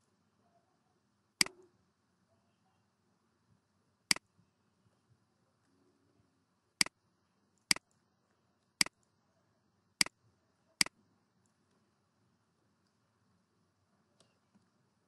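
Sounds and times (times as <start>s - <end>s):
faint background noise: 0.0s - 15.0s.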